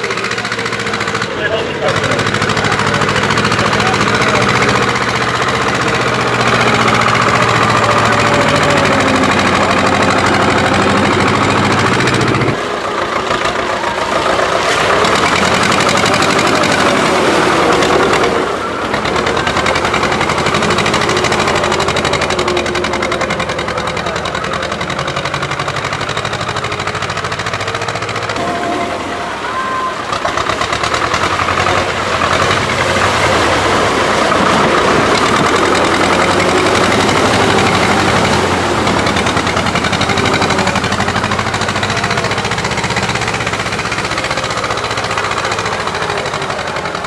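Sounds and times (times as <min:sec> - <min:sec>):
tractor engine revving: 0:00.0 - 0:47.0.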